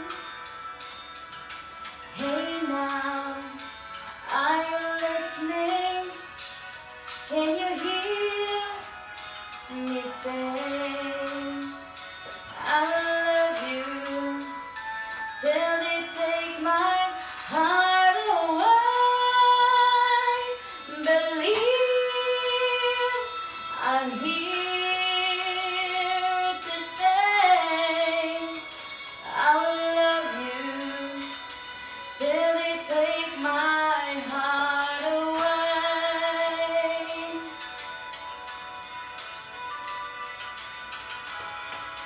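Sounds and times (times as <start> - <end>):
woman singing a slow ballad: 2.0 - 37.8.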